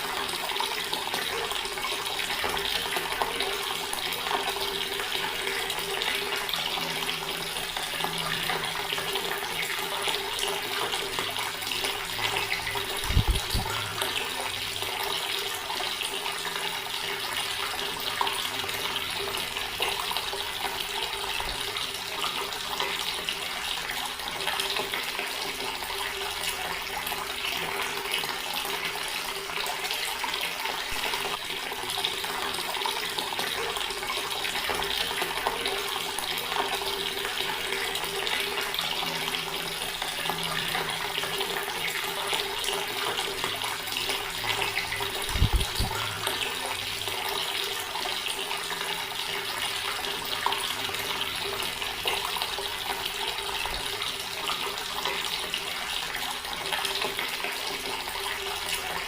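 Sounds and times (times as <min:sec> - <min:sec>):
tap water splashing into basin: 0:00.0 - 0:59.0.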